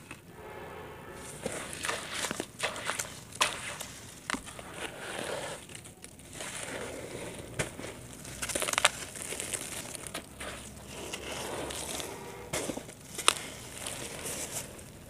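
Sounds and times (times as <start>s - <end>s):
dry dirt crunching between hands: 1.4s - 15.0s
wet squishing paste: 1.4s - 15.0s.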